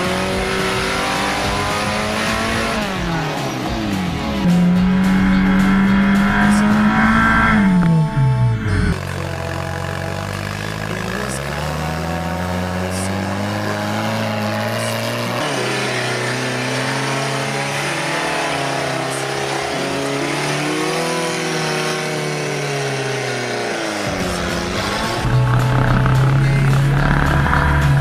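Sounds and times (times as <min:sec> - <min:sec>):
off-road engines revving: 0:00.0 - 0:28.0.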